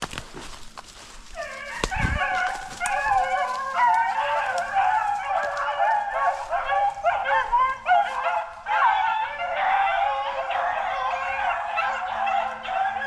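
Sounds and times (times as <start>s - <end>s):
hounds baying: 0.4s - 13.0s.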